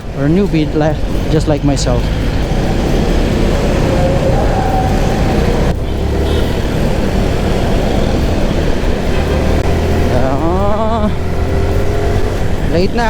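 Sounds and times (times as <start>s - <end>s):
motorcycle riding in traffic: 0.0s - 13.0s.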